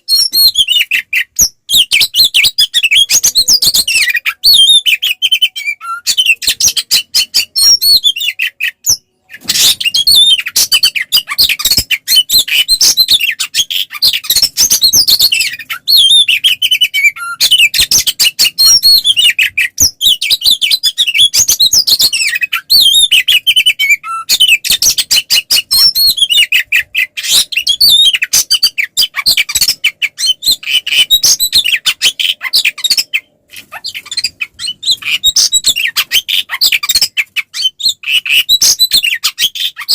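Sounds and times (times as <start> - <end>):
bird singing loudly: 0.0 - 39.9.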